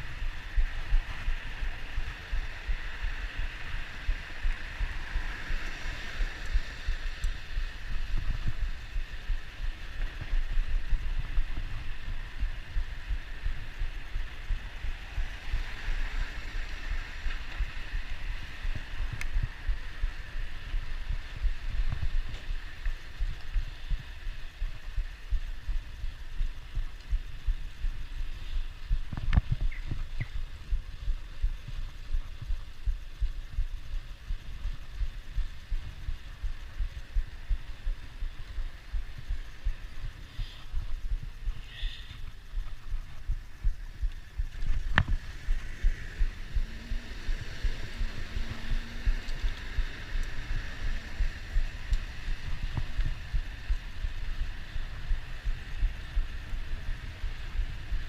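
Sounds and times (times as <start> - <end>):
faint steady hiss: 0.0 - 58.0
wind buffeting microphone: 0.0 - 58.0.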